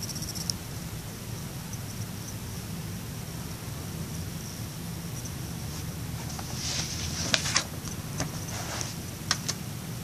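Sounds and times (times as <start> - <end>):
low hum: 0.0 - 9.2
background hiss: 0.0 - 10.0.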